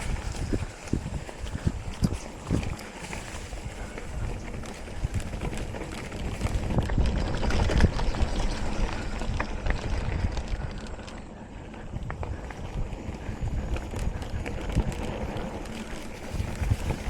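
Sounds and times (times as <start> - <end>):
bike rumbling over dirt trail: 0.0 - 17.0
wind on microphone: 0.0 - 17.0.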